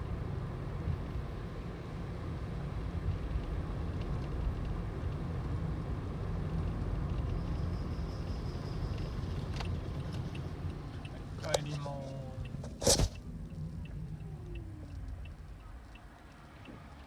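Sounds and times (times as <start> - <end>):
low road rumble in car: 0.0 - 17.0.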